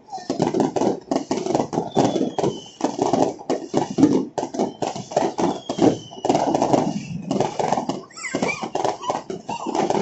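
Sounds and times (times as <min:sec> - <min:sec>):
fireworks and firecrackers banging: 0:00.0 - 0:10.0
falling firework whistle: 0:00.1 - 0:10.0.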